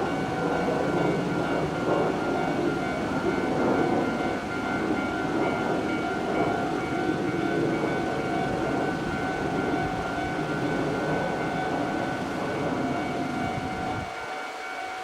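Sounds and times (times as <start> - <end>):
level crossing warning bell: 0.0 - 15.0
train rumbling past: 0.0 - 15.0.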